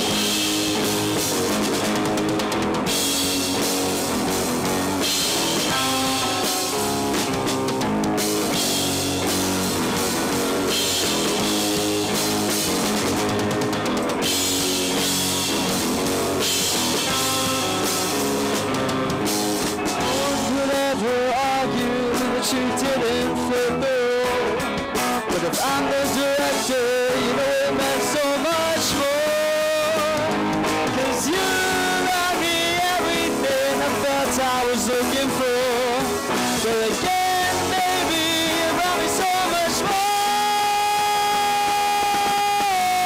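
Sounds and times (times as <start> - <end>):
drum kit: 0.0 - 43.0
electric bass: 0.0 - 43.0
electric guitars: 0.0 - 43.0.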